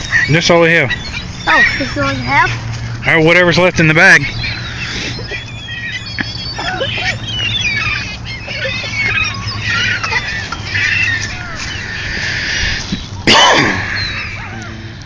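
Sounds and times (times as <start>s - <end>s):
loud gull cry falling in pitch: 0.0s - 15.0s
seagulls calling: 0.0s - 15.0s.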